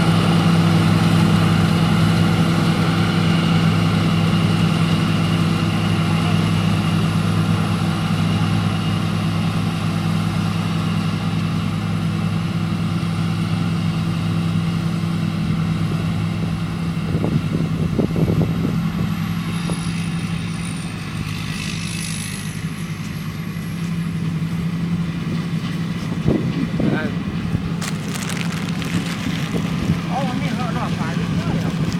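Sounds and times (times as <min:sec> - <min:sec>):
combine harvester engine running: 0:00.0 - 0:31.9.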